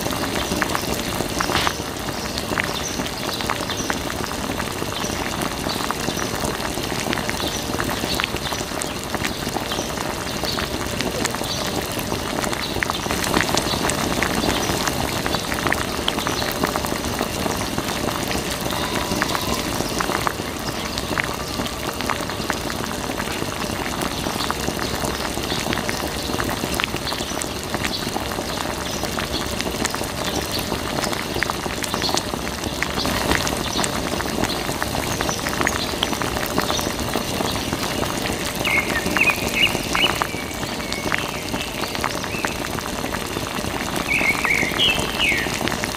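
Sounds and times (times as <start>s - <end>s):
water dripping: 0.0s - 45.9s.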